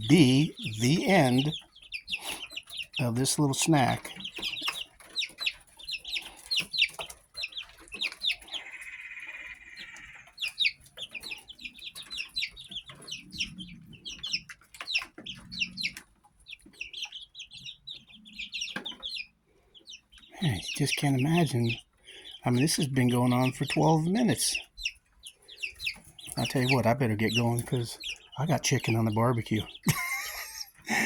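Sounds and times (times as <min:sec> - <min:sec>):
chick trilling call: 0:00.0 - 0:05.3, 0:08.0 - 0:16.0, 0:16.8 - 0:31.0
young chickens peeping: 0:00.0 - 0:31.0.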